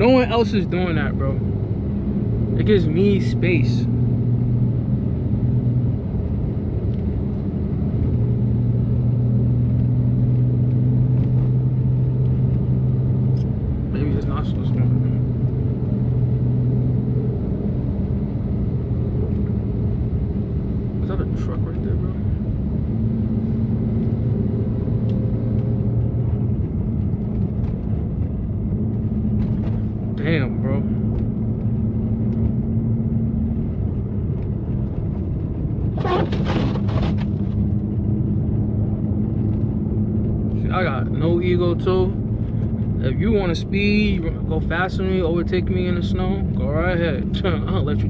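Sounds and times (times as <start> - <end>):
car engine droning: 0.0 - 48.0
tyre and road noise: 0.0 - 48.0.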